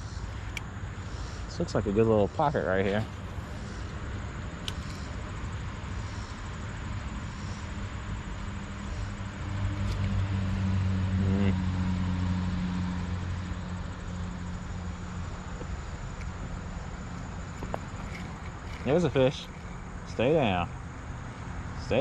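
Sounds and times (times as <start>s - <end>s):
vehicle engine hum passing: 0.0s - 22.0s.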